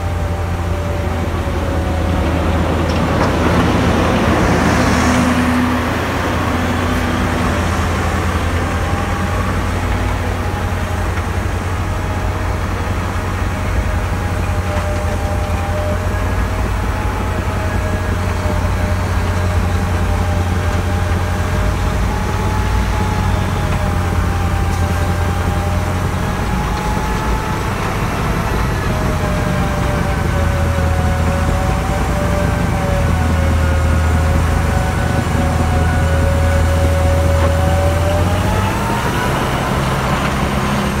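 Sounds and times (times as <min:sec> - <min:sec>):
snowblower engine droning: 0:00.0 - 0:41.0.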